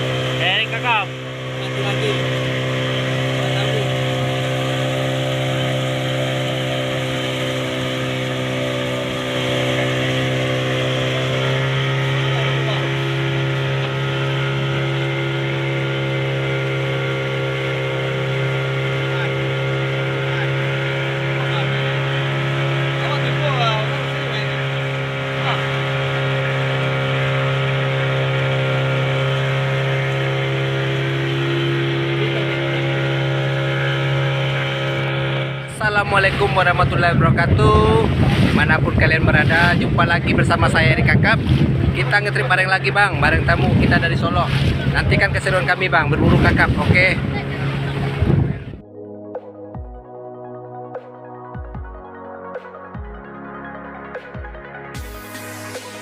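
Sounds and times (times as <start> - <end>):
boat engine drone: 0.0 - 56.0.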